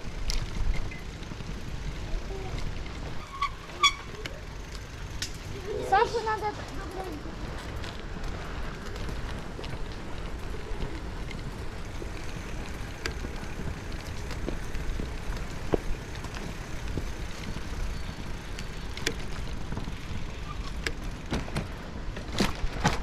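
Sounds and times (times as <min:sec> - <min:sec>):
bicycle ticks and rattles: 0:00.0 - 0:23.0
bicycle tyres and wind rumble: 0:00.0 - 0:23.0.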